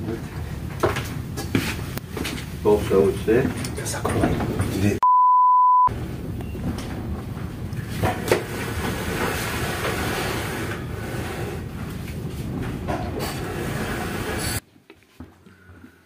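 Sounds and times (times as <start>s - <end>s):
train rumbling along track: 0.0s - 5.0s, 5.9s - 14.6s.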